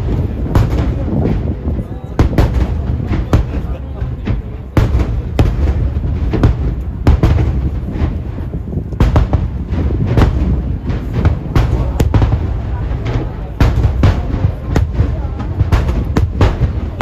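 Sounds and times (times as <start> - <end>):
fireworks bursting: 0.0 - 17.0
low rumble of booms: 0.0 - 17.0.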